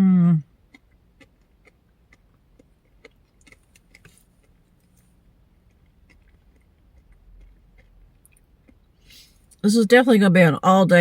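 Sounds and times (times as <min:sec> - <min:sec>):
soft chewing mouth clicks: 0:00.7 - 0:09.6.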